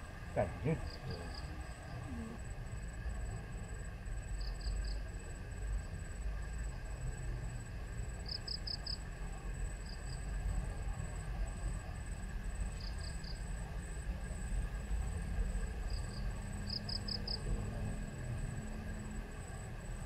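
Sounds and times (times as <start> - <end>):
low steady rumble: 0.0 - 20.0
insects trilling: 0.2 - 5.1, 8.0 - 20.0.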